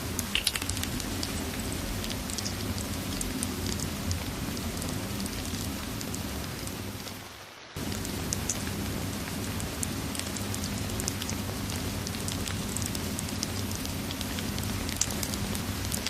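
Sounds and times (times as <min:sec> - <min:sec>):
low steady rumble: 0:00.0 - 0:07.2, 0:07.8 - 0:16.0
fireplace crackling: 0:00.0 - 0:16.0
steady rain hissing: 0:00.0 - 0:16.0.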